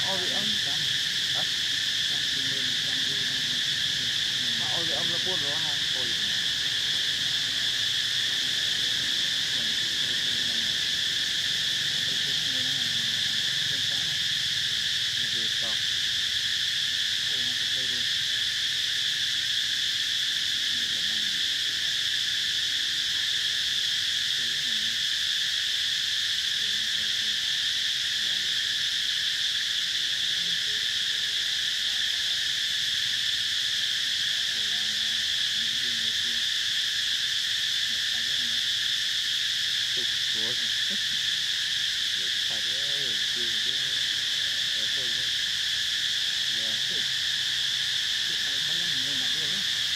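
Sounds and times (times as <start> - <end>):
insect chorus buzzing: 0.0 - 49.9.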